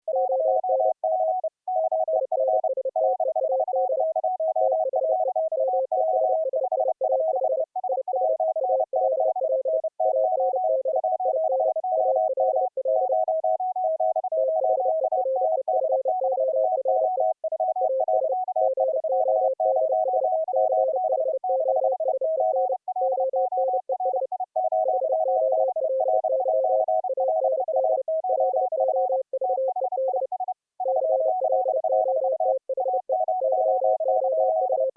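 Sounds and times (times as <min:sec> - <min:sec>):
morse code tones beeping: 0:00.1 - 0:34.9.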